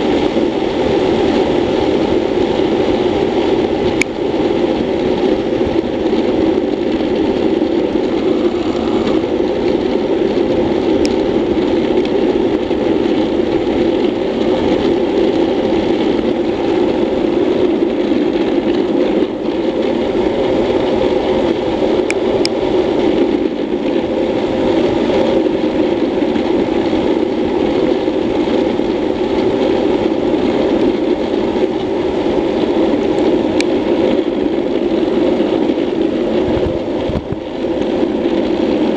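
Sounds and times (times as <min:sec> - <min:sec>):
wheels rolling on asphalt: 0:00.0 - 0:38.9
wind rushing: 0:00.0 - 0:38.9.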